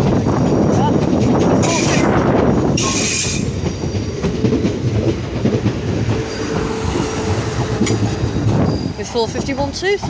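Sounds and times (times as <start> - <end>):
train rumbling: 0.0 - 10.0
wheels clicking over rail joints: 0.0 - 10.0.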